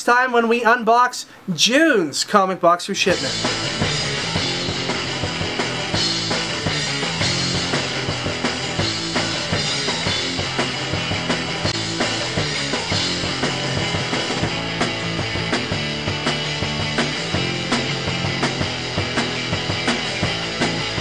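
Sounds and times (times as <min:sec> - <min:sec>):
rock music with drum beat: 0:03.1 - 0:21.0.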